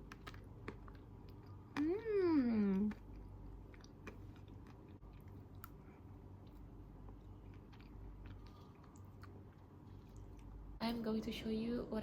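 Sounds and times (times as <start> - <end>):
person chewing: 0.0 - 10.6
low steady hum: 0.0 - 12.0.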